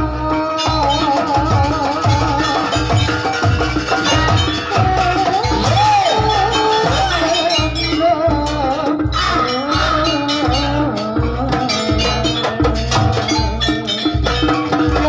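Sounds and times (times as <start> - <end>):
low drumbeat: 0.0 - 15.0
metallic percussion strikes: 0.0 - 15.0
wavering sliding melody: 0.0 - 15.0.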